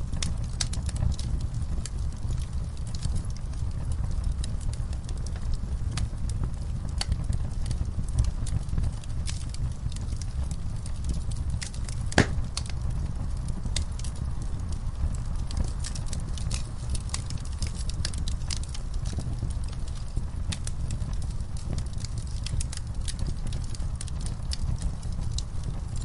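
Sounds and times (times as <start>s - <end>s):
fire crackling and popping: 0.0s - 26.0s
fire low rumble: 0.0s - 26.0s.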